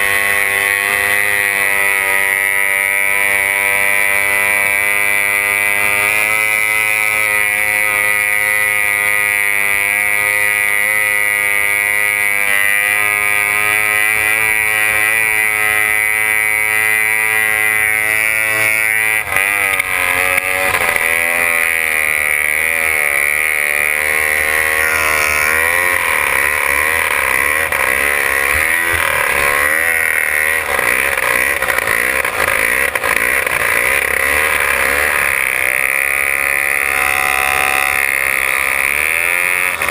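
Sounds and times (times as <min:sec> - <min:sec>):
outboard engine at high speed: 0:00.0 - 0:39.9.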